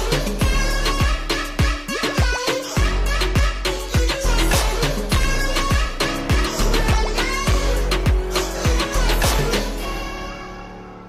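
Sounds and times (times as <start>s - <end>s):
deep kick drum: 0.0s - 9.4s
electronic dance music: 0.0s - 11.0s.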